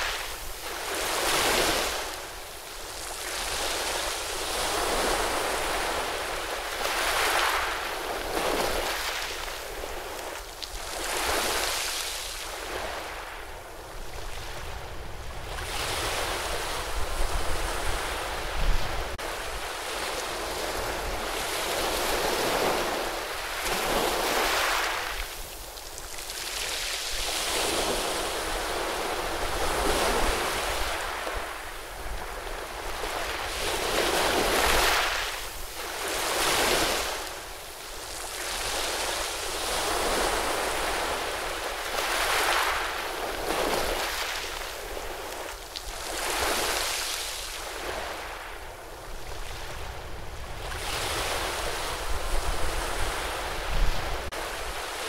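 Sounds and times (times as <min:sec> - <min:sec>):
surf washing over rocks: 0:00.0 - 0:55.0.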